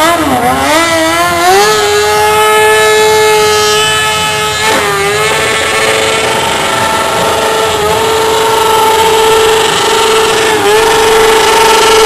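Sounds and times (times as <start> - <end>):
vehicle engine at high revs: 0.0 - 12.0.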